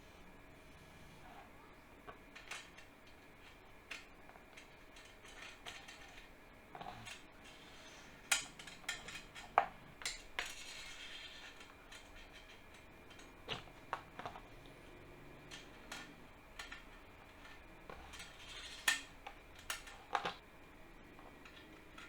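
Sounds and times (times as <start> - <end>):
small metal parts clinking: 2.3 - 20.4.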